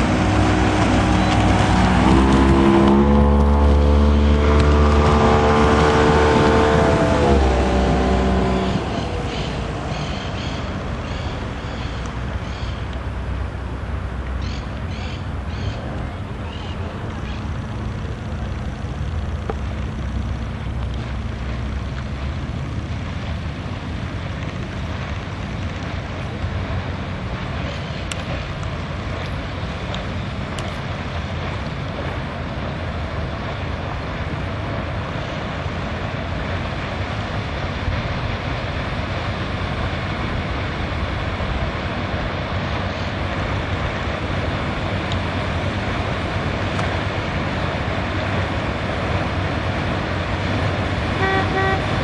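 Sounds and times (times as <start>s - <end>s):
motorboat engine droning: 0.0s - 52.0s
water rushing: 0.0s - 52.0s.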